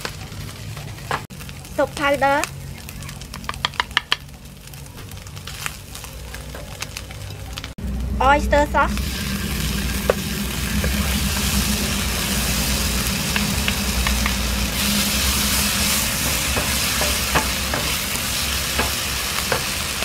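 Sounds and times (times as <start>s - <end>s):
fish pieces sizzling in a frying pan: 0.0s - 7.7s, 9.0s - 20.0s.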